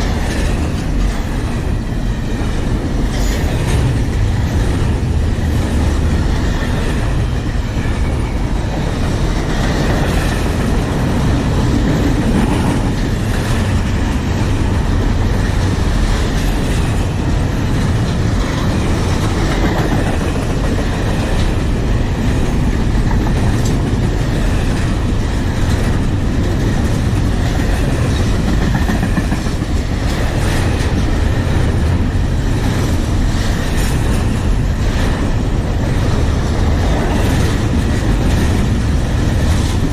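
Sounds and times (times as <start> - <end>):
freight train rumbling past: 0.0 - 39.9
wheels clacking over rail joints: 0.0 - 39.9.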